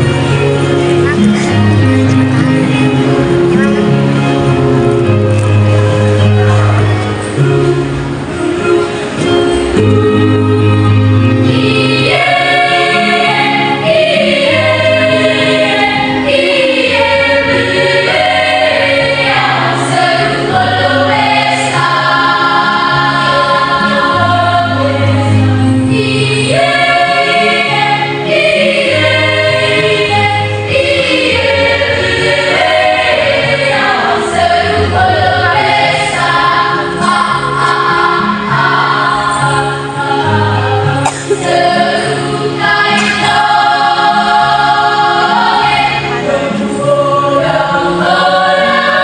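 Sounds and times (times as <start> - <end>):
youth choir singing: 9.2 - 49.0.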